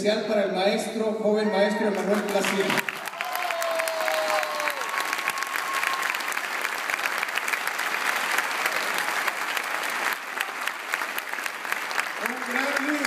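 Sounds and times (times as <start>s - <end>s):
many hands clapping: 1.9s - 13.0s.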